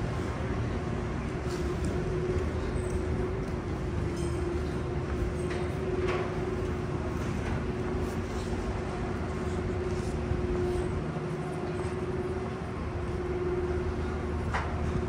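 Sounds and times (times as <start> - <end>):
constant low hum: 0.0 - 15.0
rail traffic: 0.0 - 15.0.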